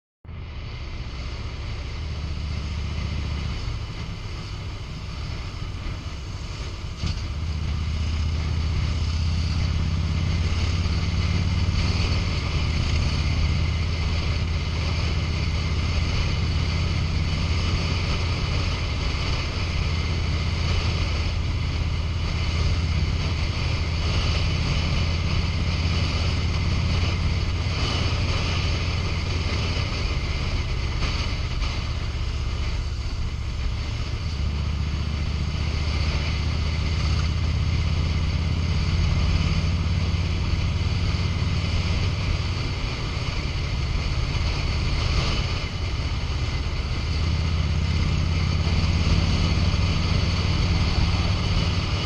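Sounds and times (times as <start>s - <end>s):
motorcycle engine running: 0.3s - 52.0s
wind rushing over microphone: 0.3s - 52.0s.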